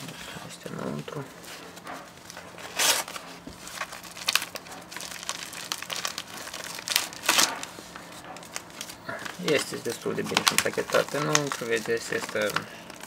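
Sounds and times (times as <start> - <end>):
plastic mailer bag crinkling: 2.1 - 13.0.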